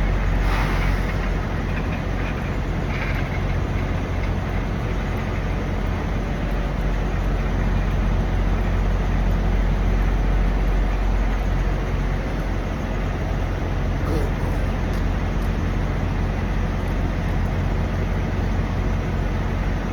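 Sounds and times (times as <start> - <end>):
diesel trucks idling: 0.0 - 19.9.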